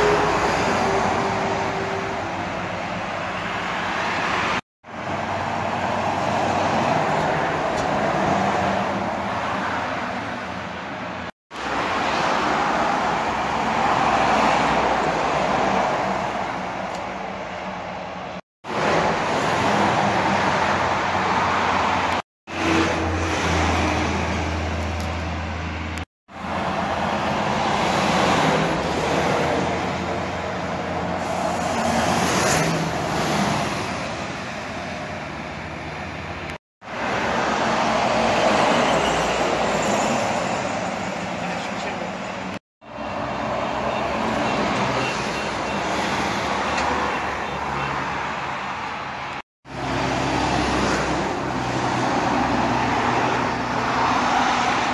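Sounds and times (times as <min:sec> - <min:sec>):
traffic passing on highway: 0:00.0 - 0:54.9.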